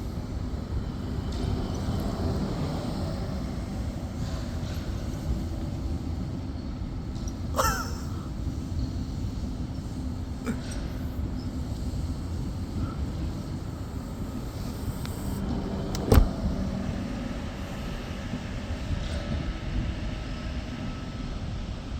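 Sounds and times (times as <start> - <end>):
electric train rumbling: 0.0 - 21.9.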